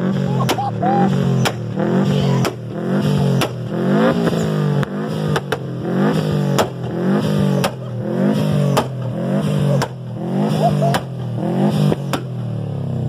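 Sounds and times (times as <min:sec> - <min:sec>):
exhaust backfire bangs: 0:00.0 - 0:12.6
car engine revving: 0:00.0 - 0:13.0.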